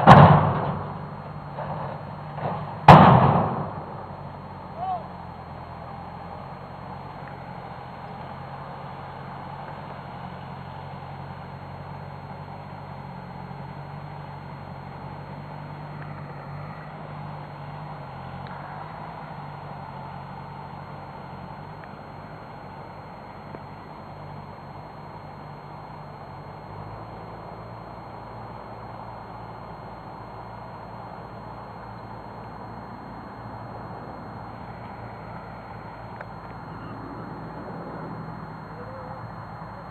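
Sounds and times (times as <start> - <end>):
engine running with low hum: 0.0 - 39.9.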